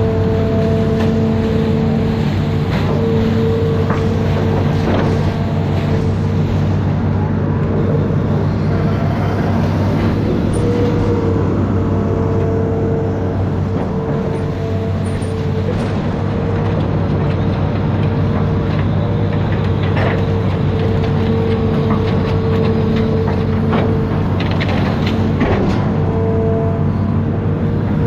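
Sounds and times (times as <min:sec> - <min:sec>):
diesel engine running under load: 0:00.0 - 0:28.0
steady whine: 0:00.0 - 0:28.0.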